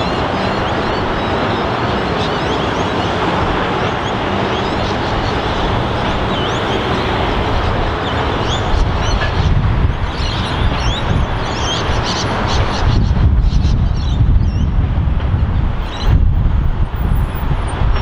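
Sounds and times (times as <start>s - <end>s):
birds chirping: 0.0s - 14.8s, 15.6s - 18.0s
train wheels rumbling and clattering: 0.0s - 18.0s.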